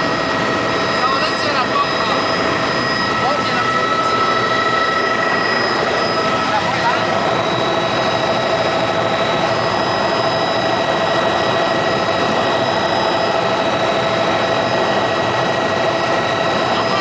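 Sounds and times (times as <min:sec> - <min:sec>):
constant high whine: 0:00.0 - 0:17.0
helicopter rotor and engine noise: 0:00.0 - 0:17.0.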